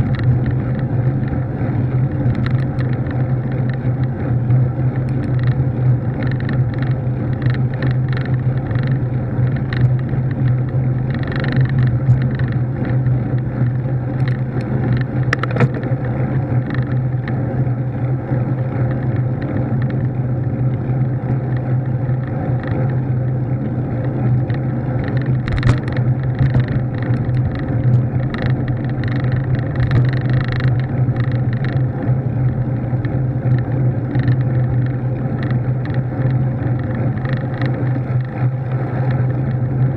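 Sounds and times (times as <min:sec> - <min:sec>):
light rattles and knocks: 0:00.0 - 0:17.4, 0:24.4 - 0:39.8
low drone: 0:00.0 - 0:39.9
road and wind noise: 0:00.0 - 0:39.9.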